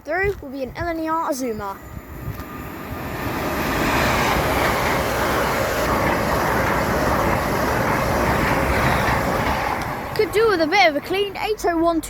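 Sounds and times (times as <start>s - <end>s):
electric train passing: 0.6s - 12.0s.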